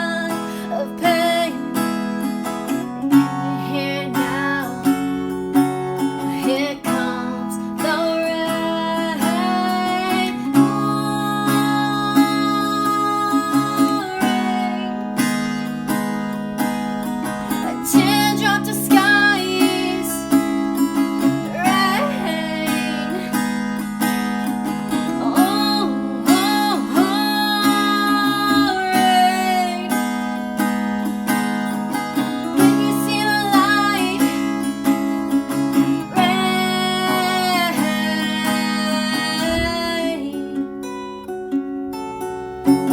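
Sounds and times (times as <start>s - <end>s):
person singing: 0.0s - 16.2s, 17.2s - 30.2s, 31.9s - 40.8s
acoustic guitar strumming: 0.0s - 42.9s.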